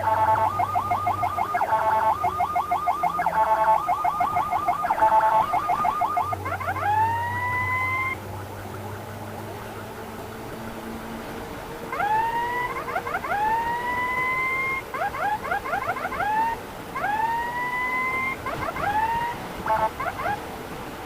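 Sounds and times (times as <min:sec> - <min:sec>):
ambulance siren wailing and yelping: 0:00.0 - 0:20.6.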